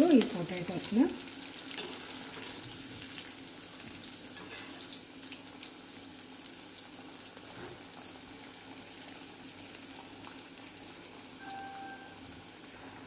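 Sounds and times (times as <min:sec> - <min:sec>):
potatoes deep-frying in oil: 0:00.0 - 0:13.0.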